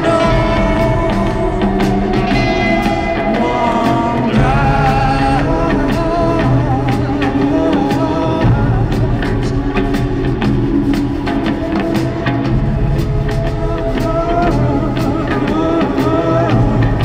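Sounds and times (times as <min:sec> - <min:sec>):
bass line: 0:00.0 - 0:17.0
drum kit beat: 0:00.0 - 0:17.0
live rock band playing: 0:00.0 - 0:17.0
sliding instrumental tones: 0:00.0 - 0:17.0.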